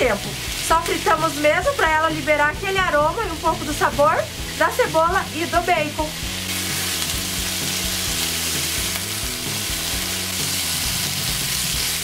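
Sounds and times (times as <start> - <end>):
bacon and onion sizzling in a pan: 0.0 - 12.0.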